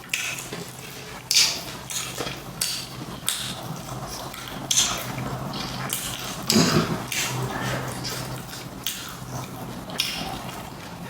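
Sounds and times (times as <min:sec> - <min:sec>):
crunching fried chicken: 0:00.0 - 0:11.0.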